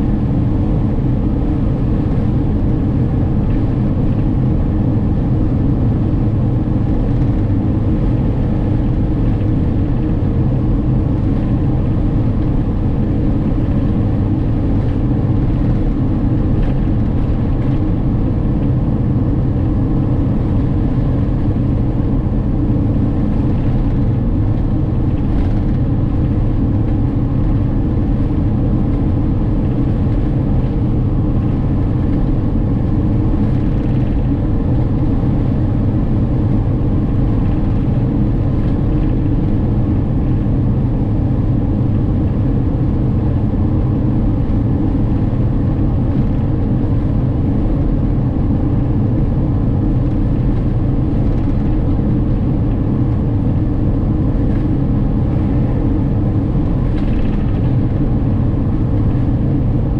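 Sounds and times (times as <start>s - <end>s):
engine and tyre rumble: 0.0s - 59.9s
faint steady hum: 0.0s - 59.9s.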